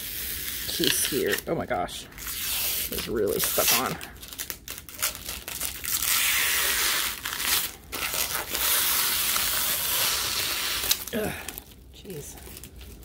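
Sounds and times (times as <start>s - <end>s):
plastic film peeling off metal: 0.1s - 1.6s, 2.2s - 11.8s.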